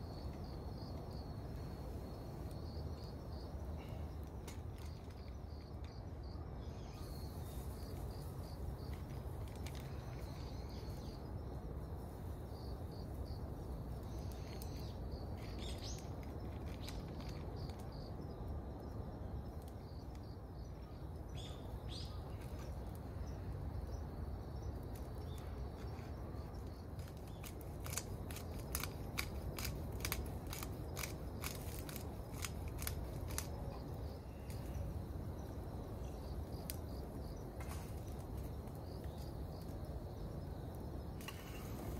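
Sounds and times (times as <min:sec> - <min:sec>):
insect chirring: 0:00.0 - 0:41.9
campfire snapping and crackling: 0:00.1 - 0:06.0, 0:07.3 - 0:20.8, 0:21.6 - 0:41.9.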